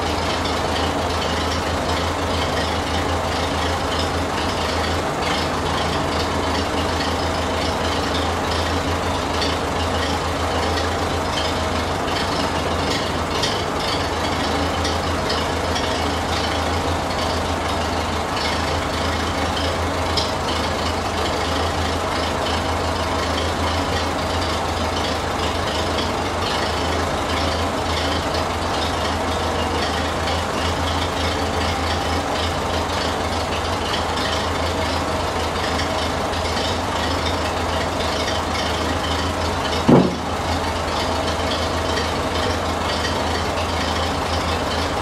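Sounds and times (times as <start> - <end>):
tractor engine idling: 0.0 - 45.0.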